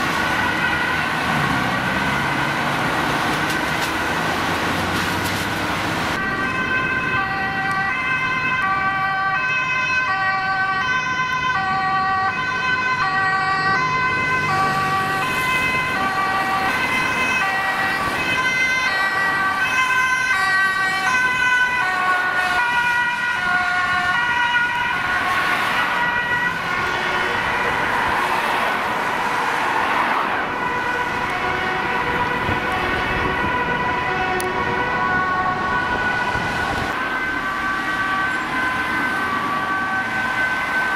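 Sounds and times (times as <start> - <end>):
city traffic noise: 0.0 - 40.9
two-tone emergency sirens: 0.0 - 40.9
steady siren tone: 6.2 - 28.2, 29.4 - 40.9.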